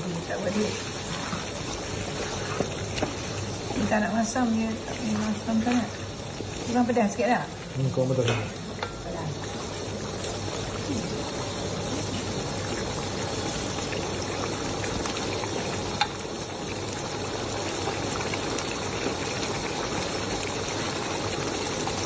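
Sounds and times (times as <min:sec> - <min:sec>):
sauce bubbling in a wok: 0:00.0 - 0:22.0.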